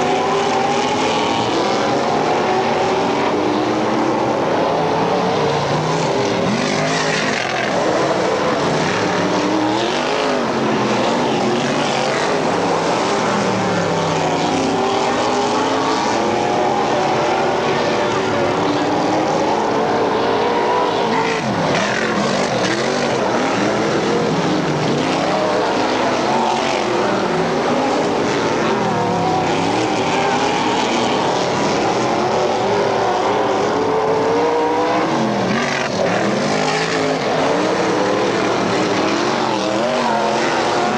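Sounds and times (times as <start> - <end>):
race car engines accelerating: 0.0 - 40.9.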